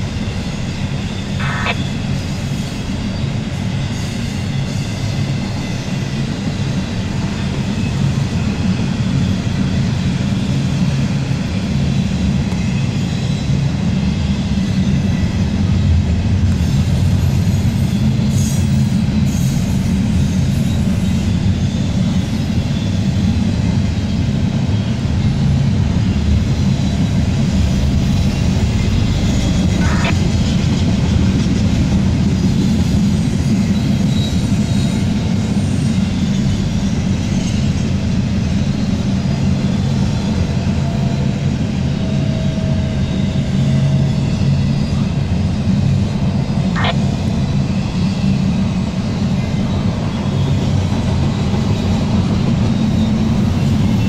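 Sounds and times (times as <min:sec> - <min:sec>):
steel wheels rumbling on rail: 0:02.0 - 0:54.0.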